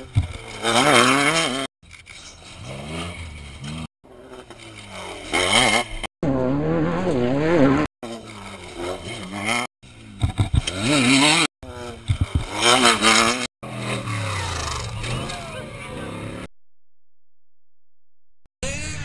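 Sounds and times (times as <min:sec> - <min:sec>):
off-road vehicle engines revving: 0:00.0 - 0:16.5.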